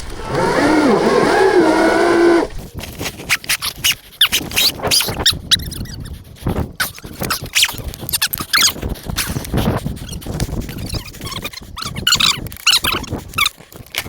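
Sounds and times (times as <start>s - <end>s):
mud squelching and squeaking: 0.0s - 14.0s.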